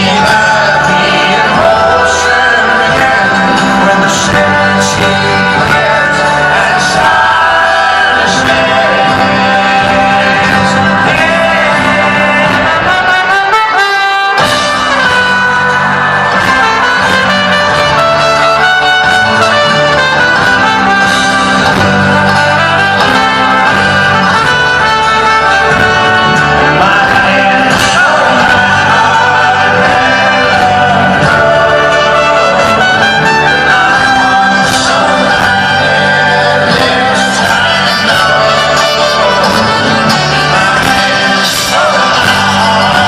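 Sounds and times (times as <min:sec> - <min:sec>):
person singing: 0:00.0 - 0:15.9, 0:16.5 - 0:43.0
brass section melody: 0:00.0 - 0:43.0
folk-rock band playing live: 0:00.0 - 0:43.0.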